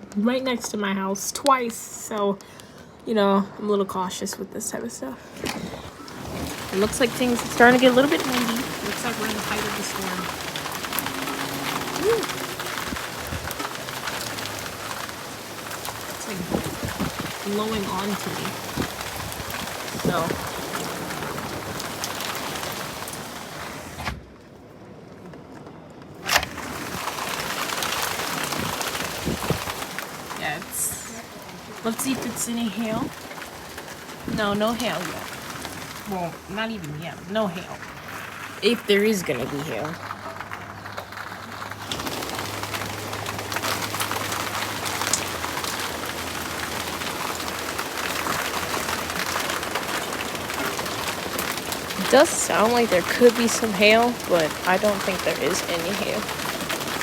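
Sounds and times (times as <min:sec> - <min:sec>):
heavy rain: 0:05.2 - 0:57.0.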